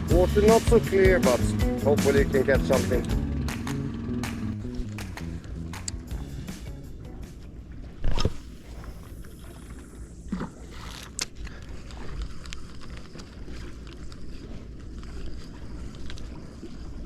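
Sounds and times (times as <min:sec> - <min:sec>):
boat engine rumble: 0:00.0 - 0:17.0
water noise: 0:00.0 - 0:17.0.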